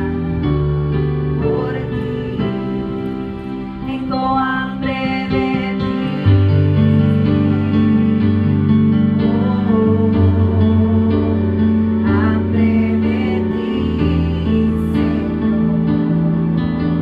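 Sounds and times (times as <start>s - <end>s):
backing track of sustained chords: 0.0s - 17.0s
woman singing into a microphone: 1.4s - 16.4s.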